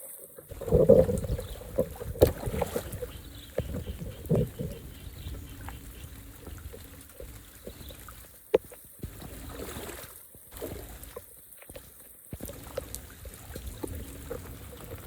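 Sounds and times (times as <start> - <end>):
water trickling and pouring: 0.0 - 15.0.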